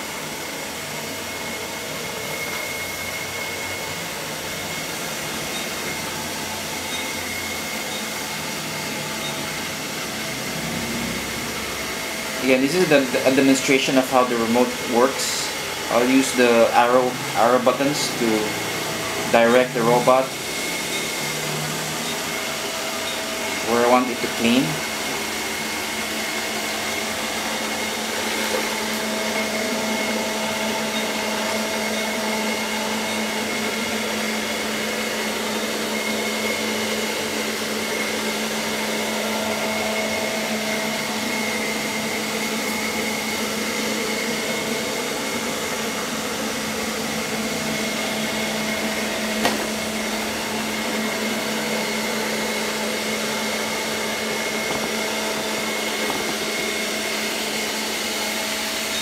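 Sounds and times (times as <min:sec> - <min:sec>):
robot vacuum running: 0:00.0 - 0:59.0.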